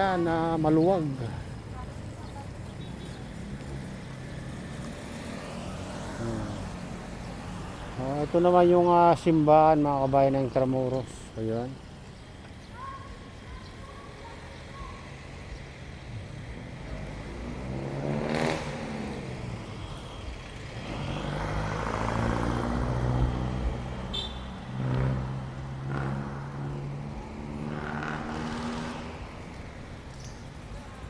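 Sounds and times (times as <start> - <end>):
low engine hum and road noise: 0.0 - 31.0
vehicles passing: 0.0 - 31.0.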